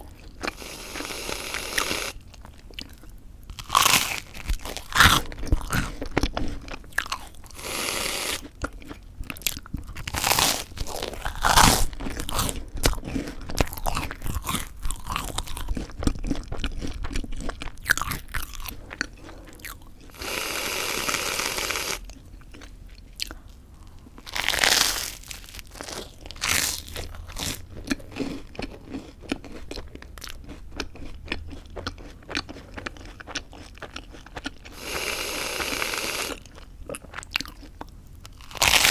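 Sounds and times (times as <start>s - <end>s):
crunching toast: 1.6s - 19.9s, 24.2s - 36.4s, 37.1s - 38.9s.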